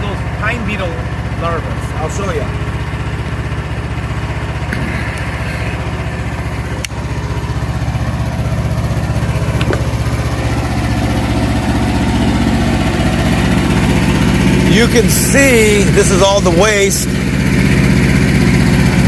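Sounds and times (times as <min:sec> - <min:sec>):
sawmill engine idling: 0:00.0 - 0:19.0.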